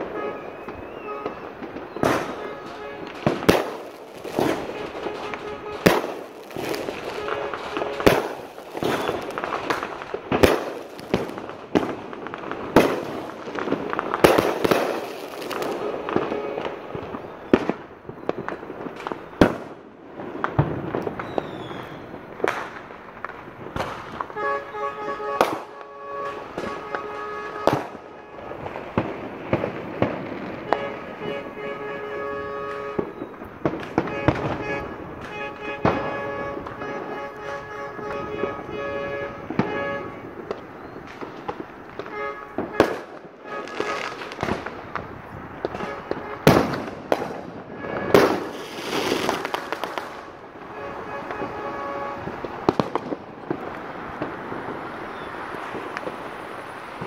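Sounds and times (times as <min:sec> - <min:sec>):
fireworks and firecrackers banging: 0:00.0 - 0:57.0.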